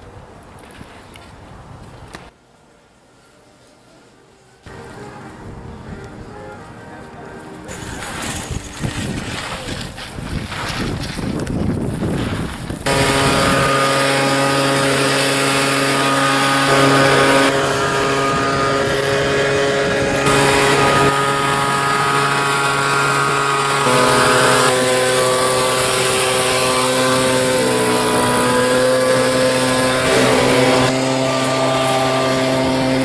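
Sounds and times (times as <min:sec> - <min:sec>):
engine running: 0:04.6 - 0:33.0.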